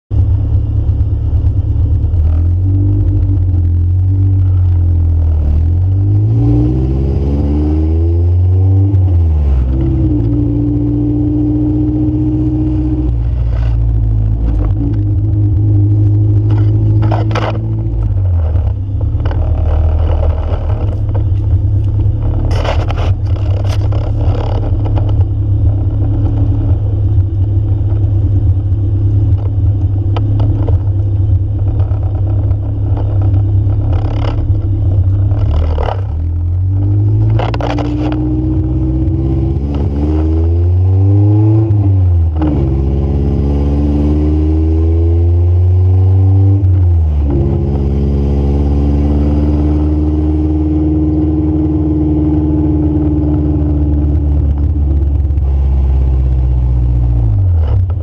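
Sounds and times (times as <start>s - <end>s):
car engine revving: 0.1s - 58.0s
road noise: 0.1s - 58.0s.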